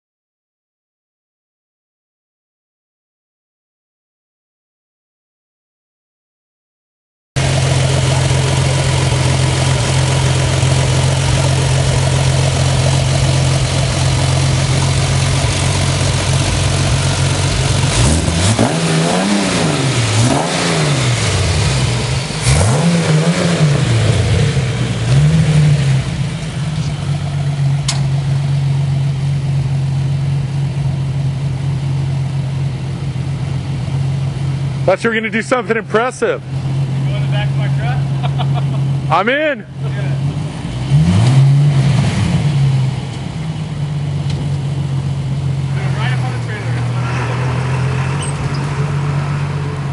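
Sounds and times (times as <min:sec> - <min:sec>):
buggy engine idling and revving: 0:07.4 - 0:49.9.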